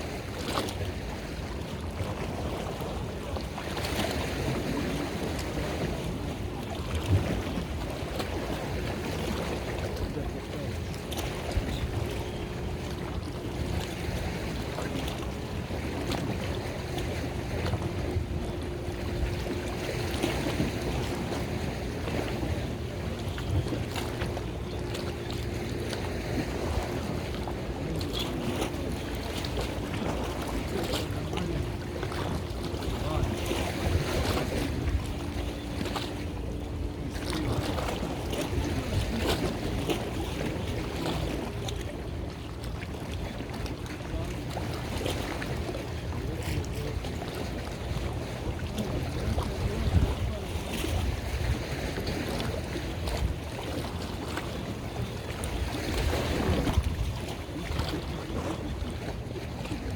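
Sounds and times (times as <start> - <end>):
boat engine rumble: 0.0 - 59.9
water noise: 0.0 - 59.9
wind buffeting microphone: 0.0 - 59.9.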